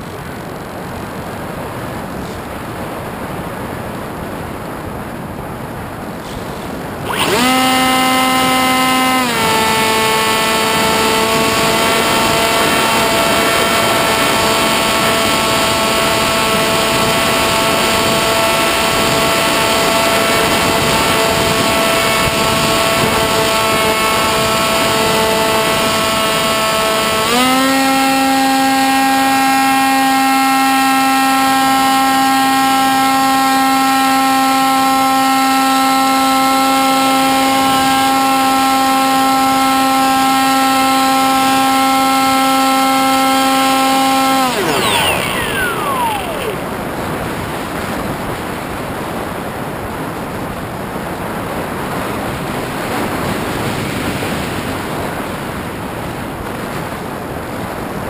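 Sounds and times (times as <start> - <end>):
electric motor and propeller whine: 6.1 - 58.0.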